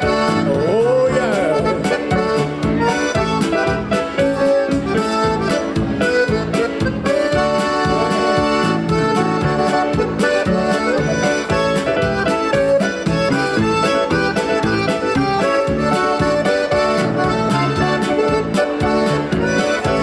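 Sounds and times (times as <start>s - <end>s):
accordion melody: 0.0s - 20.0s
keyboard accompaniment: 0.0s - 20.0s.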